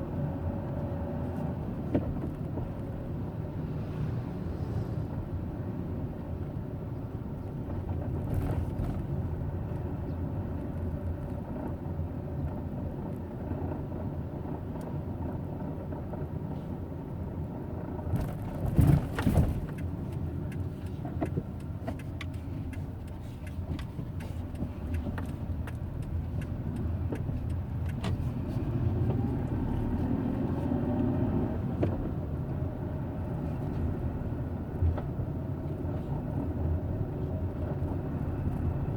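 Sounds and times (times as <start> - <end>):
car engine low rumble: 0.0 - 38.9.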